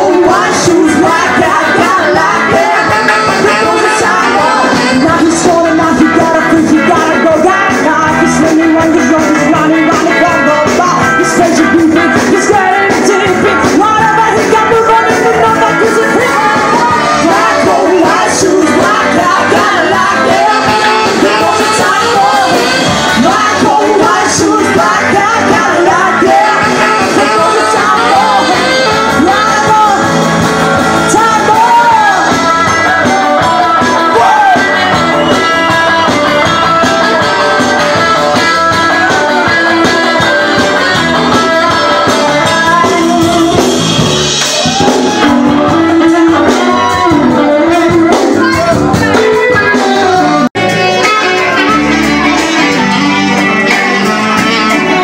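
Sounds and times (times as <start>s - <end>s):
live band music: 0.0s - 55.0s
woman singing: 0.0s - 55.0s.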